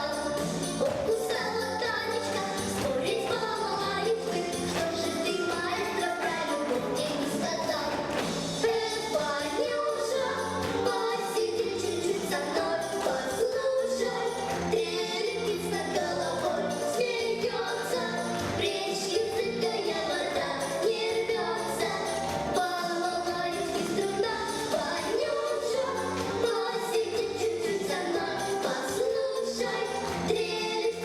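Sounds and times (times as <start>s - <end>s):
children singing: 0.0s - 31.0s.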